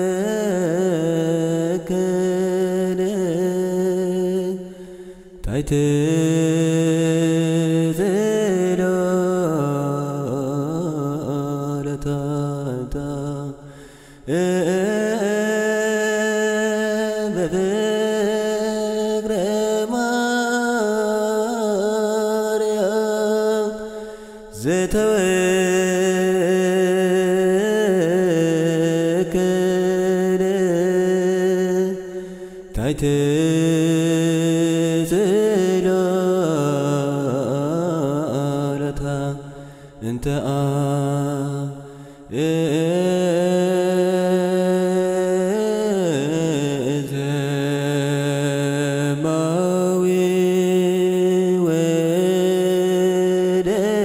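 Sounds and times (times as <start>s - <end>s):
person chanting a hymn: 0.0s - 54.0s.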